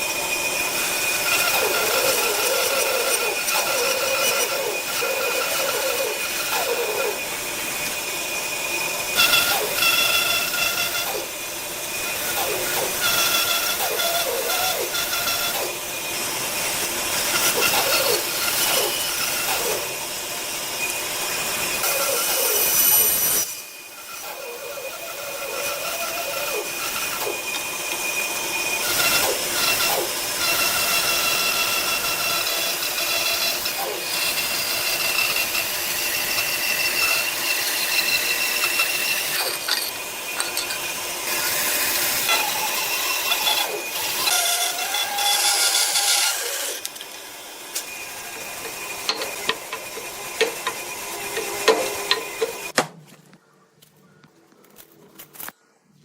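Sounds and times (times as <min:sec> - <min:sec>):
power tool whine: 0:00.0 - 0:52.8.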